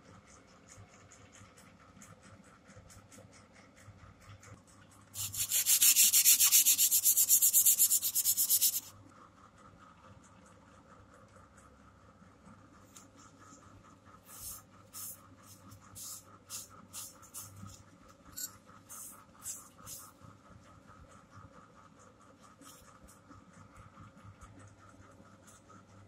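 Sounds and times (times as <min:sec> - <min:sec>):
faint steady hum: 0:03.6 - 0:26.0.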